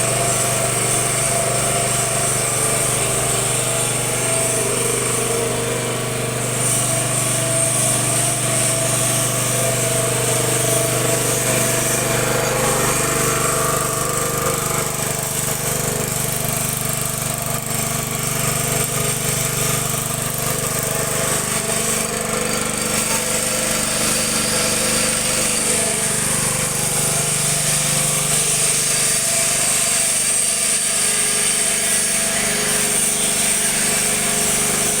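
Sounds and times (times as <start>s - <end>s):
well drilling machine drone: 0.0s - 35.0s.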